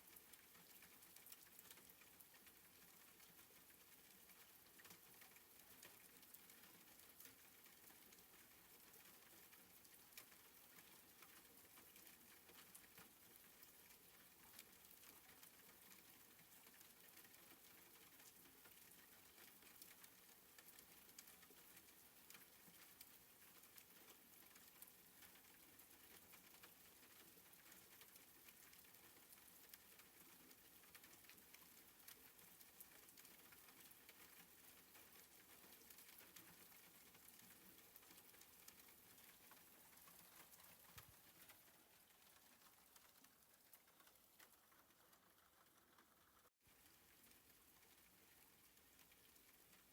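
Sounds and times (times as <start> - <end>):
soft rain hiss: 0.0 - 49.9.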